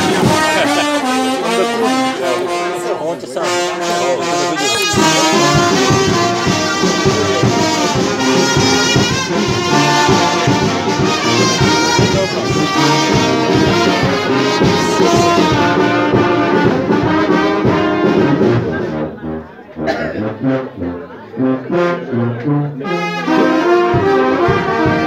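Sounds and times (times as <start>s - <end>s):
brass band playing: 0.0s - 25.0s.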